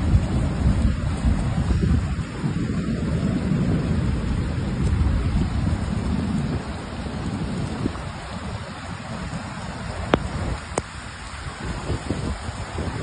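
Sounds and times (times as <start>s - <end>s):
heavy rain: 0.0s - 13.0s
rushing floodwater: 0.0s - 13.0s.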